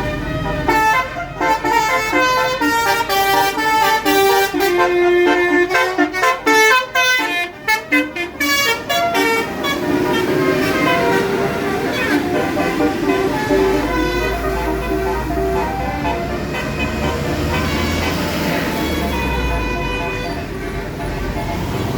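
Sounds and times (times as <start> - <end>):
bus horn playing a melody: 0.0 - 21.9.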